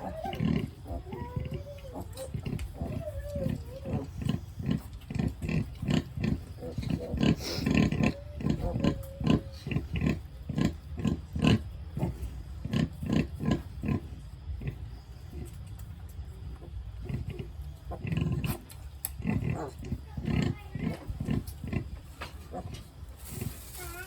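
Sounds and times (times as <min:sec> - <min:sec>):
pig grunting: 0:00.0 - 0:15.6, 0:16.6 - 0:24.0.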